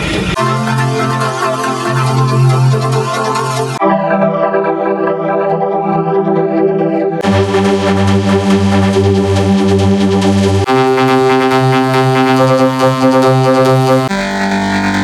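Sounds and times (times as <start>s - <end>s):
synthesizer droning chord: 0.4s - 15.0s.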